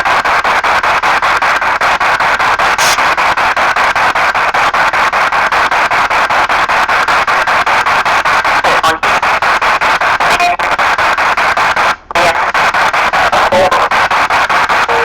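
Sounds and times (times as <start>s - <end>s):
radio static hiss bursts: 0.0s - 15.0s.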